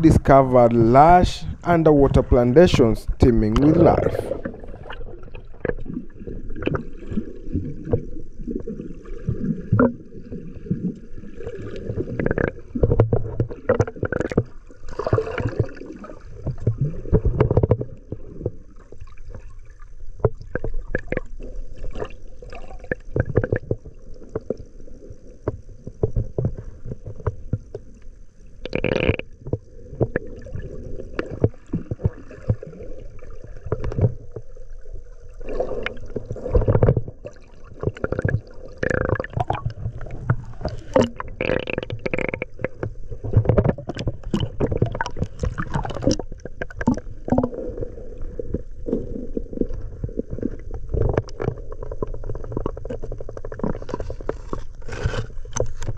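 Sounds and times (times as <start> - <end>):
underwater sloshing and gurgling: 0.0 - 55.9.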